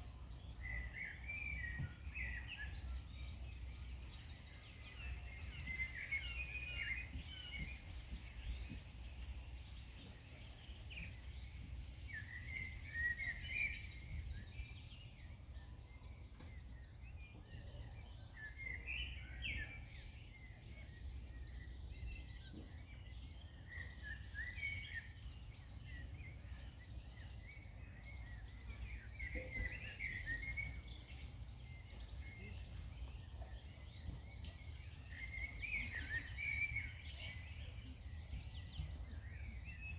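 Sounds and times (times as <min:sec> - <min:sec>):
low rumble of wind: 0:00.0 - 0:39.9
songbirds chirping: 0:00.0 - 0:39.9.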